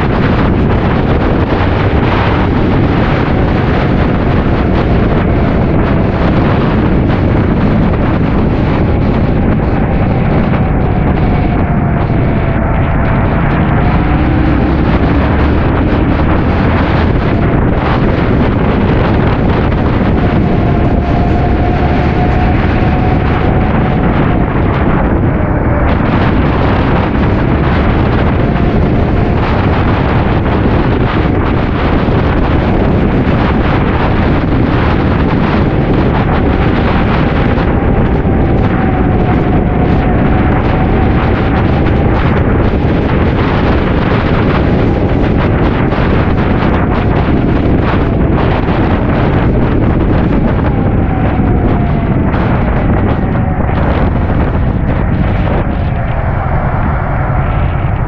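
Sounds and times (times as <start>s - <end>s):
motorcycle running: 0.0s - 58.0s
wind buffeting microphone: 0.0s - 58.0s.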